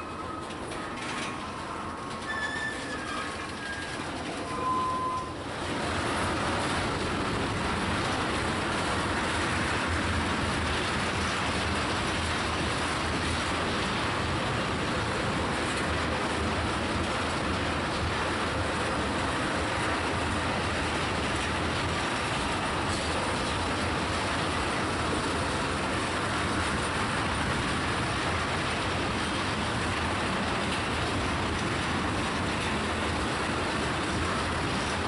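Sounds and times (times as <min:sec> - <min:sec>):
steel wheels on rails: 0:00.0 - 0:35.0.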